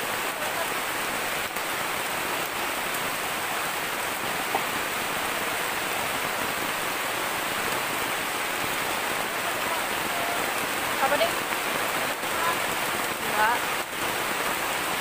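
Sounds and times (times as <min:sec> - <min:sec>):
heavy rain on foliage: 0:00.0 - 0:15.0.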